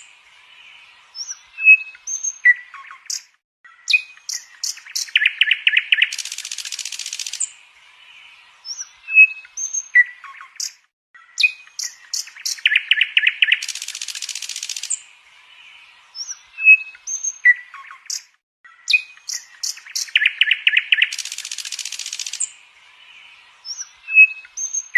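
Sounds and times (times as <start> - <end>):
birds chirping and calling: 0.0 - 24.9.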